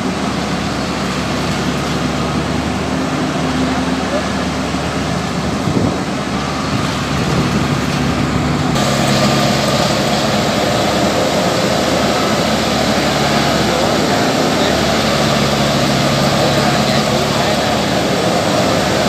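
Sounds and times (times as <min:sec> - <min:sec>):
heavy engine under load: 0:00.0 - 0:19.0.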